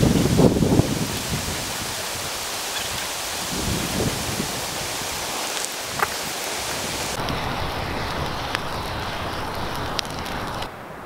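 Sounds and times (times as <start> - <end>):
burning wood popping: 0.0 - 10.8
campfire flames hissing: 0.0 - 11.0.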